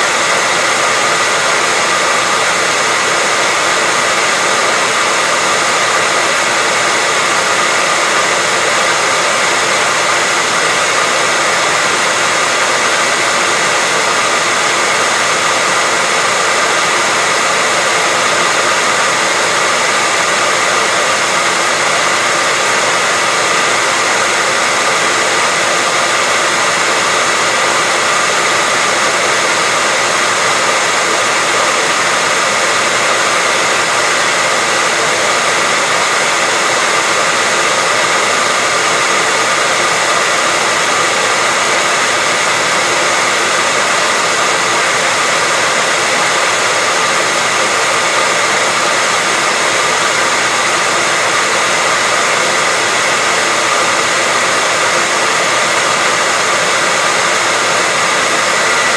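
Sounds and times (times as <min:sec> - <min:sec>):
hairdryer running: 0:00.0 - 0:58.9.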